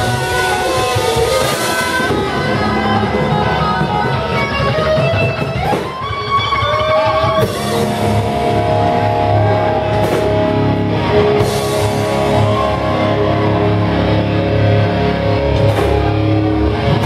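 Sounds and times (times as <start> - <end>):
bending lead guitar notes: 0.0 - 17.0
rock band playing: 0.0 - 17.0.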